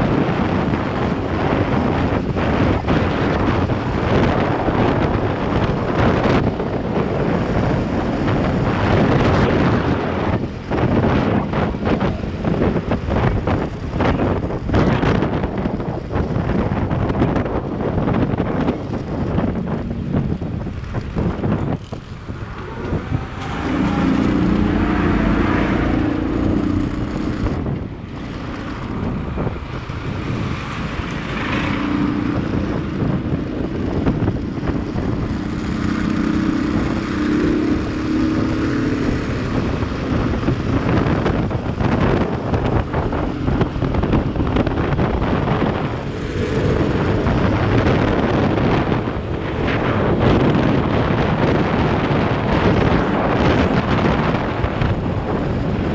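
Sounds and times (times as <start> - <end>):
motorcycle engine hum: 0.0 - 55.9
wind buffeting microphone: 0.0 - 55.9.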